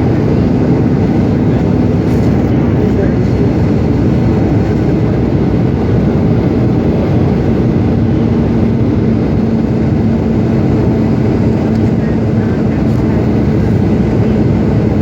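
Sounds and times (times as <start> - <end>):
airliner engine rumble: 0.0 - 15.0
steady hum: 0.0 - 15.0.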